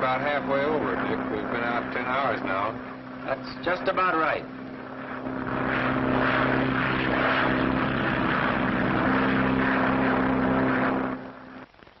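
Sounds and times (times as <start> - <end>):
propeller aircraft engines drone: 0.0 - 11.7.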